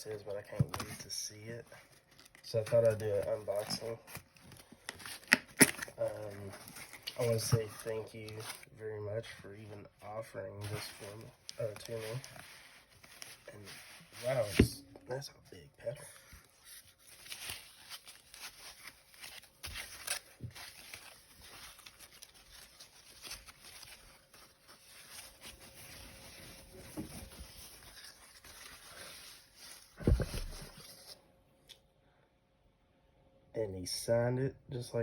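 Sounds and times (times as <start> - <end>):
packaging rustling and crinkling: 0.5 - 9.3, 10.6 - 14.8, 16.2 - 31.2.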